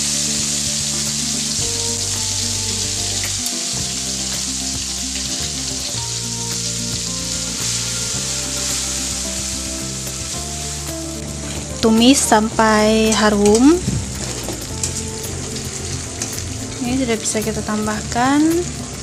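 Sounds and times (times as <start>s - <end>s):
spice paste sizzling in oil: 0.0s - 19.0s.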